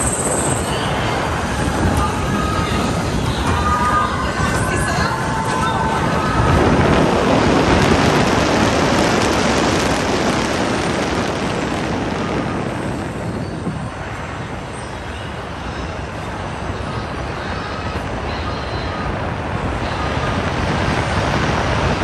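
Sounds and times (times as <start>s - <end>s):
loud rushing wind: 0.0s - 22.0s.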